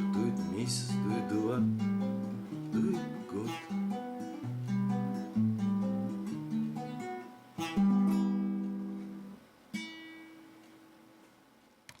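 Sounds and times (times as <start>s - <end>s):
acoustic guitar playing: 0.0s - 11.3s.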